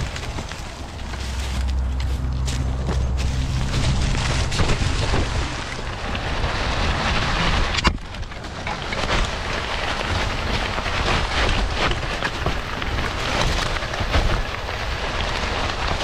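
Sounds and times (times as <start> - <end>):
tyres crunching through leaves: 0.0 - 16.0.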